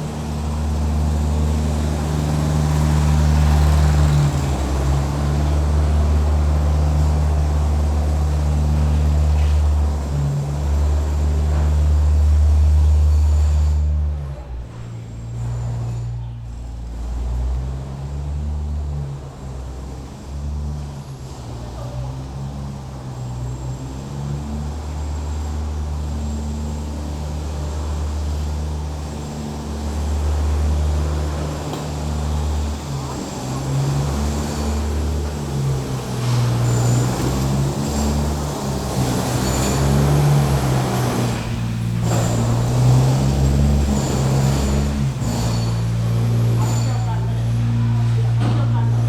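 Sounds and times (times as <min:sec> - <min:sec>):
large engine droning: 0:00.0 - 0:49.0.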